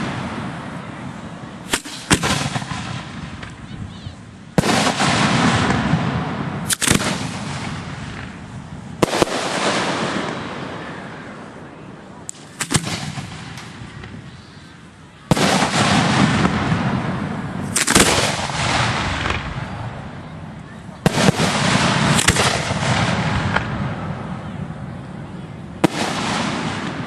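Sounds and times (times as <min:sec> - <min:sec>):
fireworks exploding: 0:00.0 - 0:27.0.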